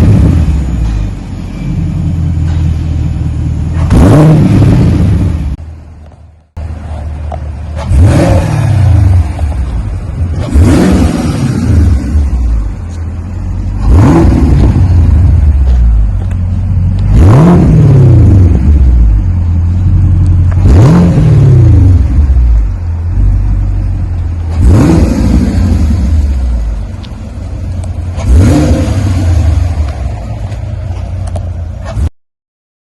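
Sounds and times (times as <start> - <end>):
engine idling: 0.0 - 17.4, 18.4 - 21.0, 21.6 - 32.1
car engine revving: 3.3 - 5.7, 6.6 - 32.1.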